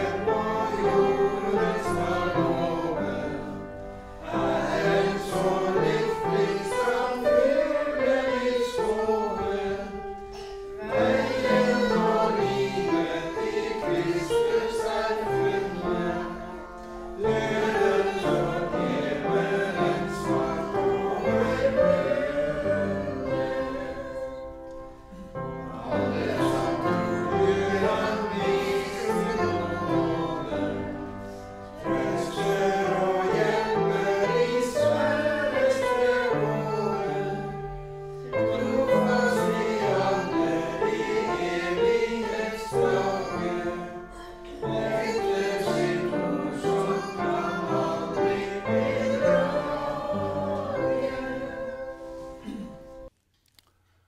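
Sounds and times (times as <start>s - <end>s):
congregation singing a hymn: 0.0s - 53.1s
upright piano accompaniment: 0.0s - 53.1s.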